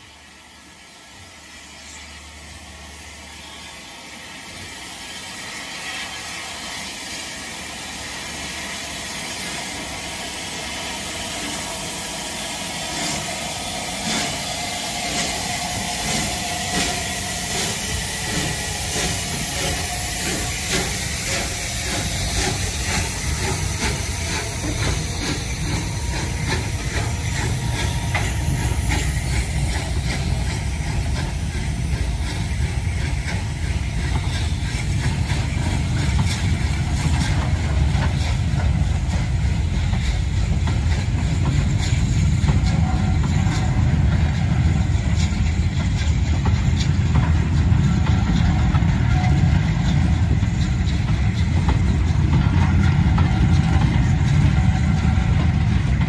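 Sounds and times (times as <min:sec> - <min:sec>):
steam hissing: 0:00.0 - 0:56.0
steam locomotive exhaust beats: 0:00.0 - 0:56.0
wheels rumbling on rail: 0:00.0 - 0:56.0.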